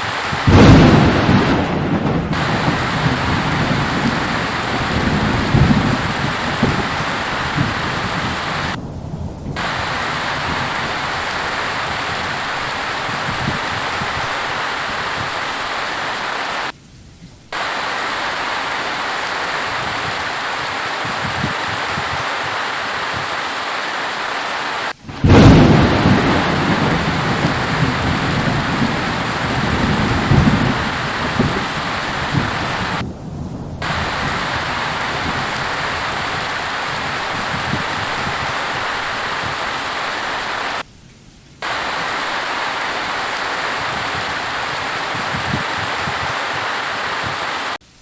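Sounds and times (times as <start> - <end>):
heavy rain: 0.0 - 48.0
thunder rumbling: 0.2 - 40.9, 41.6 - 47.8.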